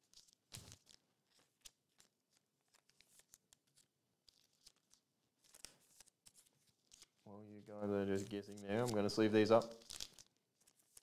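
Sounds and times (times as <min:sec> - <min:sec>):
trading cards rustling: 0:00.0 - 0:11.0.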